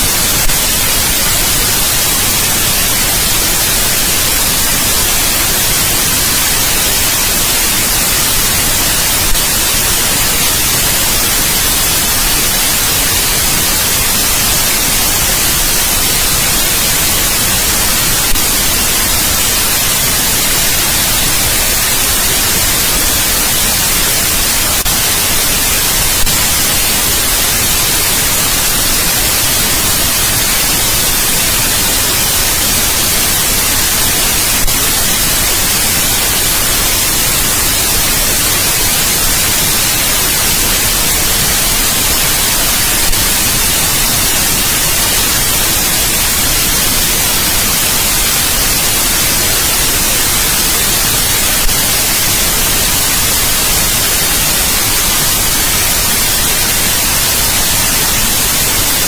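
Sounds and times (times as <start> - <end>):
loud white noise hiss: 0.0 - 59.0.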